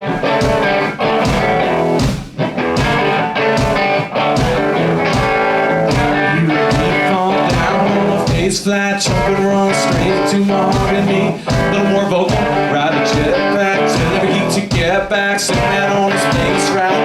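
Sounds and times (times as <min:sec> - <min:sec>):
electric guitar: 0:00.0 - 0:17.0
steady drum beat: 0:00.0 - 0:17.0.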